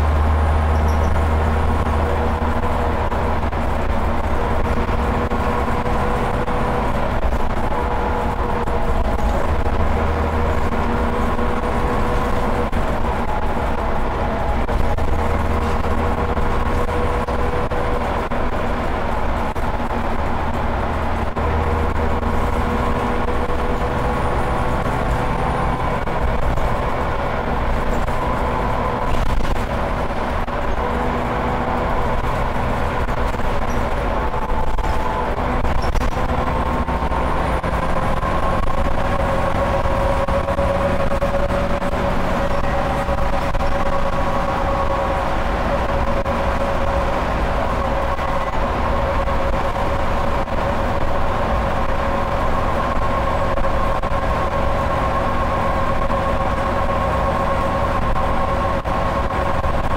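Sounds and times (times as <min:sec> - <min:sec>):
bus engine and road drone: 0:00.0 - 0:59.9.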